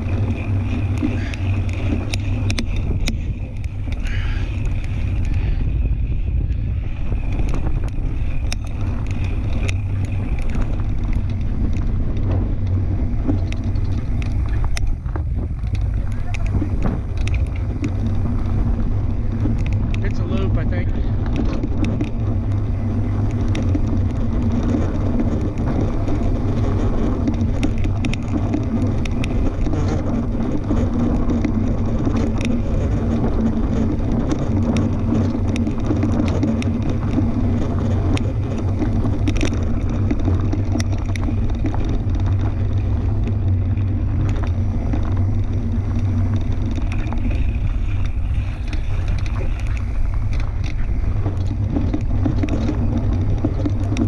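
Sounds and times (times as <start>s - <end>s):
bike tyres rumbling on dirt: 0.0s - 54.0s
small clicks and rattles: 0.0s - 54.0s.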